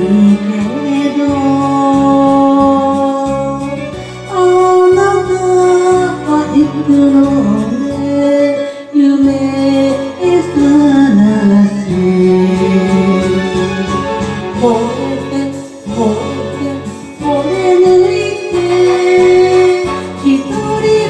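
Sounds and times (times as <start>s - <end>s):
backing track with bass line: 0.0s - 21.0s.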